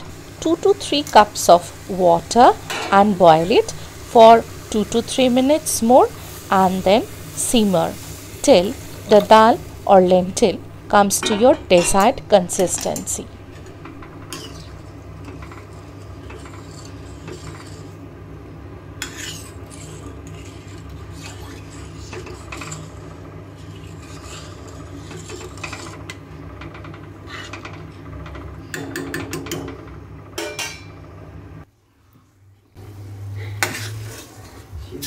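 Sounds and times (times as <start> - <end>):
spatula scraping in metal wok: 0.4 - 18.0, 19.0 - 31.0, 33.4 - 35.0.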